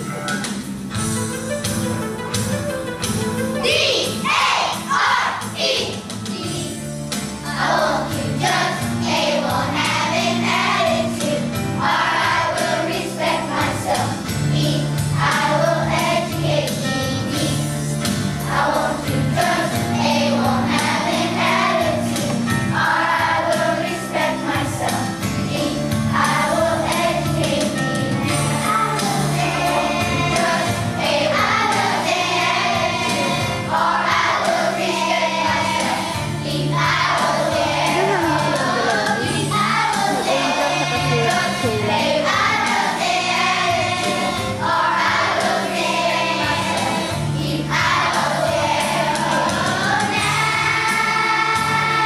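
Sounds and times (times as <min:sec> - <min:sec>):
instrumental accompaniment: 0:00.0 - 0:52.0
children's choir singing: 0:03.6 - 0:52.0.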